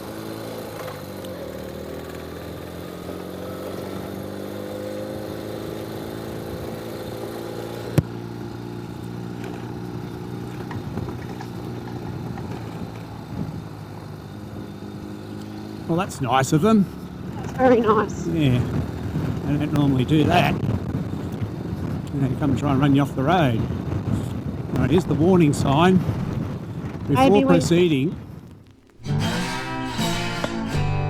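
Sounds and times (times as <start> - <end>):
motorcycle engine idling: 0.0 - 20.1, 25.6 - 31.0.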